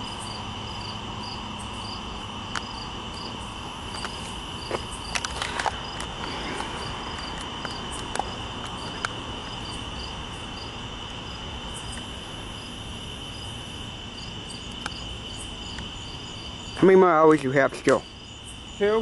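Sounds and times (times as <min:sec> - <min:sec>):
crickets trilling: 0:00.0 - 0:19.0
pulsing insect call: 0:00.0 - 0:19.0.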